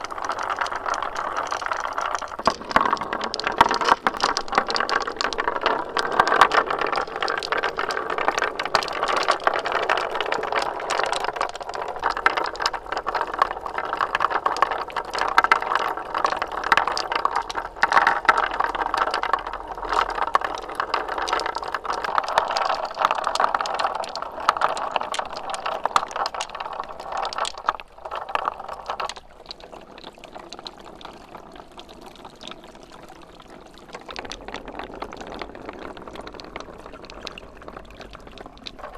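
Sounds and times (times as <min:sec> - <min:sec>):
marbles rattling along a track: 0:00.0 - 0:38.9.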